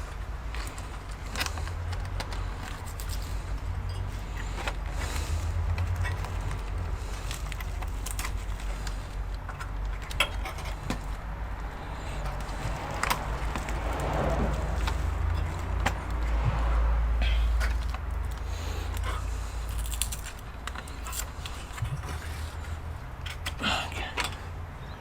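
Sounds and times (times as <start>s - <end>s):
light clicks of parts: 0.1s - 24.6s.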